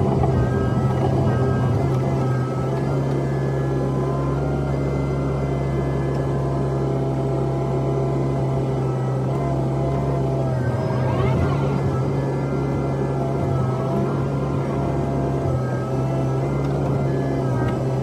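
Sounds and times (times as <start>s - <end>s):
excavator diesel engine running: 0.0s - 18.0s
hydraulic whine: 0.0s - 18.0s.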